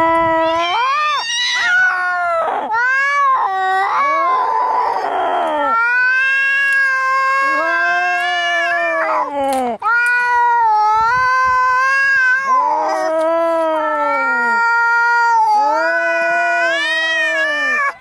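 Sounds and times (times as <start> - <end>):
cats caterwauling: 0.0 - 18.0.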